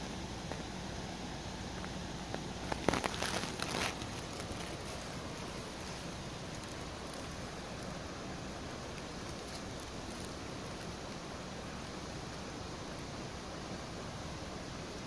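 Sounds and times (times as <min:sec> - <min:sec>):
plants rustling: 0:00.0 - 0:14.1
creek water flowing: 0:00.0 - 0:15.0.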